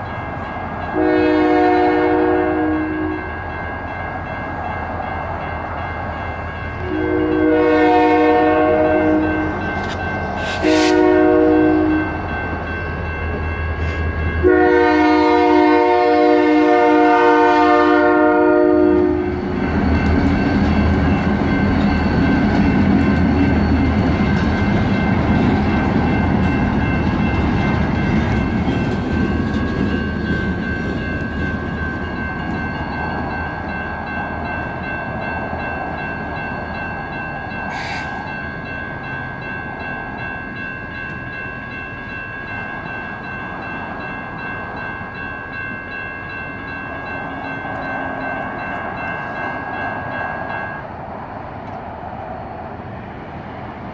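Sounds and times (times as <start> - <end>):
crossing warning bells ringing: 0.0 - 51.5
diesel locomotives rumbling: 0.0 - 53.9.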